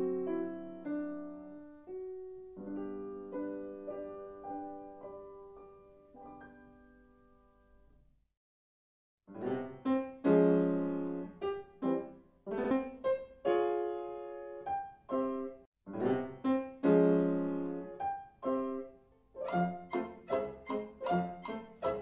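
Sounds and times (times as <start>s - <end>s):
piano notes and chords: 0.0s - 8.0s, 9.3s - 22.0s.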